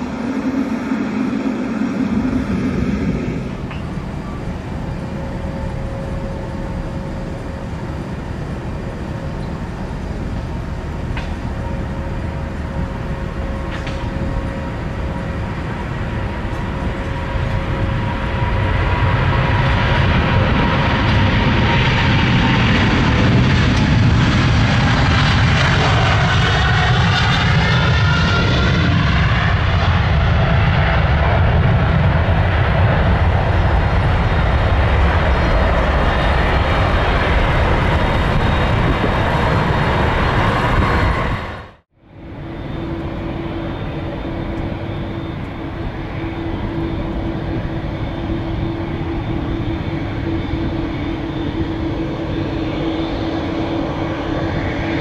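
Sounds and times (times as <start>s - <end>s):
jet engines taking off: 0.0s - 55.0s
steady jet engine hum: 0.0s - 55.0s.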